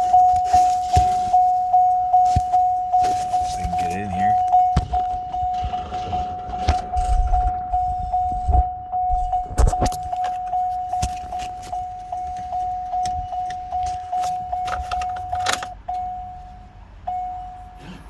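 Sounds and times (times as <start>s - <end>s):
dashboard warning chime: 0.0s - 18.0s.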